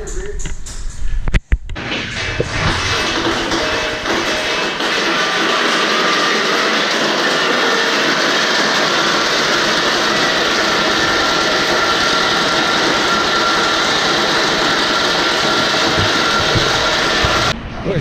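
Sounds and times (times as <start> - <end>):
machinery rattling and humming: 1.8 - 17.6.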